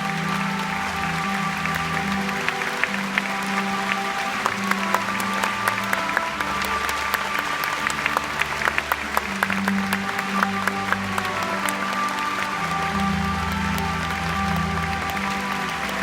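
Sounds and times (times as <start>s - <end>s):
audience applause: 0.0s - 16.0s
live music with held chords: 0.0s - 16.0s.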